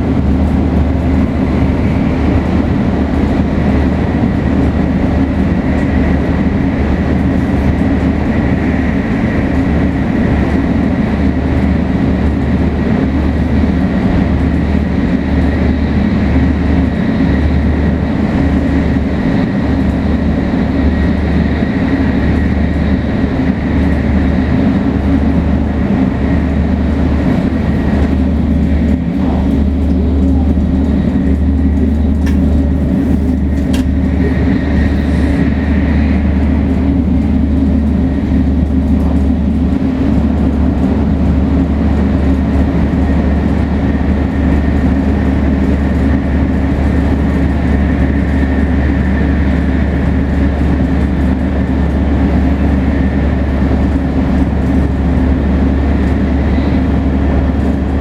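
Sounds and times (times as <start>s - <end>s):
wheels rumbling on track: 0.0s - 58.0s.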